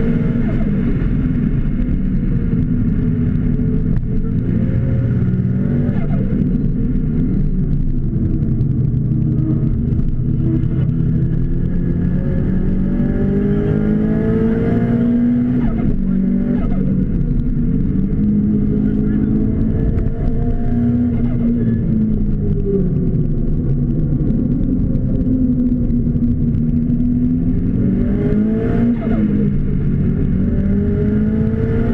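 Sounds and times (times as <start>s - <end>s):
race car engine revving: 0.0s - 31.9s.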